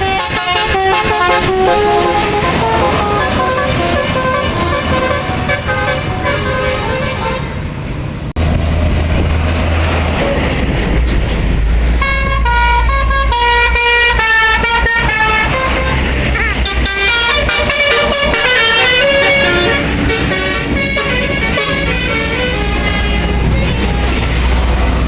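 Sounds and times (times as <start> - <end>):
musical bus horn melody: 0.0 - 7.7, 12.0 - 25.0
bus engine running: 0.0 - 25.0.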